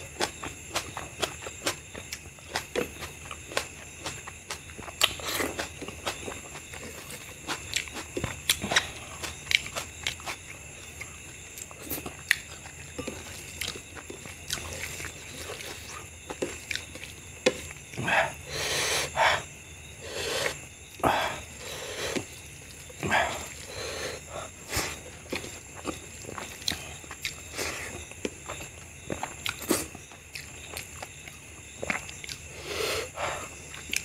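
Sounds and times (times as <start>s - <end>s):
chewing and breathing hiss: 0.0s - 34.0s.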